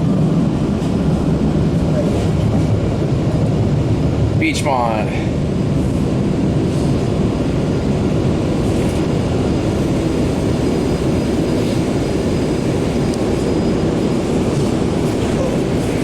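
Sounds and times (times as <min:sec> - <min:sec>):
subway car wheels rumbling on rail: 0:00.0 - 0:16.0.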